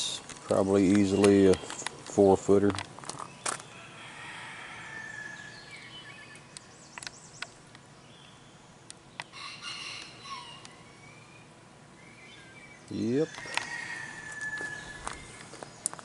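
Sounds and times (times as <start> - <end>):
chickens calling: 3.2 - 16.0.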